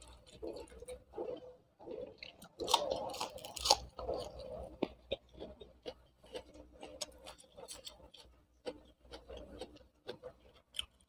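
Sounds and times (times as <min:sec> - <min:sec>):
person chewing crunchy onion: 0:00.0 - 0:11.0.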